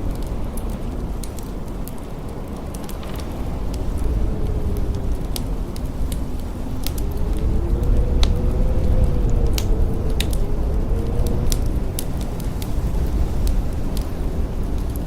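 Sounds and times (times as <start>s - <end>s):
blizzard wind howling: 0.0s - 15.0s
wood fire crackling and popping: 0.0s - 15.0s.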